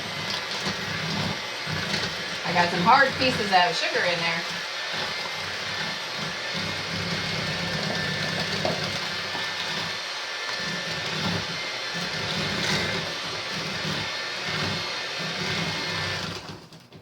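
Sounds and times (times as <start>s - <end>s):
electric mixer beating batter: 0.0s - 17.0s.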